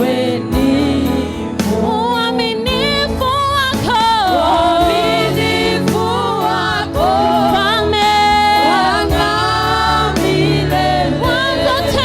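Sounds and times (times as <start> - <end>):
gospel singer and choir singing: 0.0 - 12.0
keyboard and bass backing: 0.0 - 12.0.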